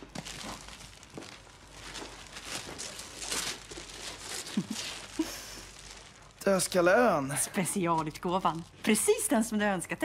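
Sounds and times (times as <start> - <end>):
wrapping paper tearing and crumpling: 0.0 - 9.5.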